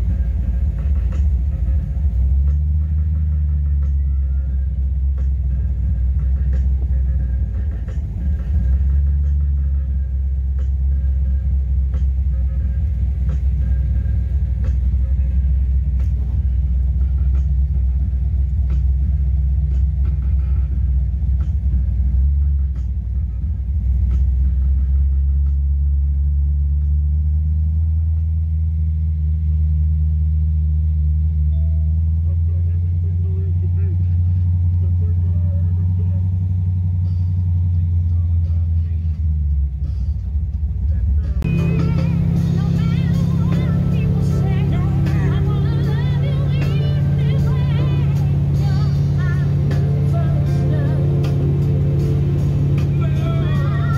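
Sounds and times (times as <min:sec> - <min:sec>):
car engine rumbling inside cabin: 0:00.0 - 0:53.9.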